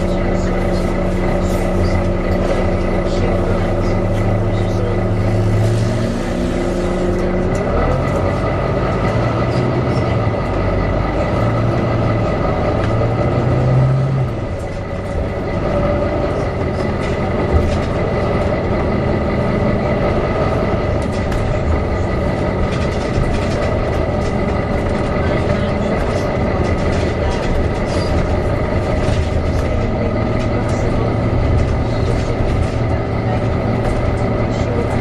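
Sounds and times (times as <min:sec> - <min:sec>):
bus diesel engine: 0:00.0 - 0:35.0.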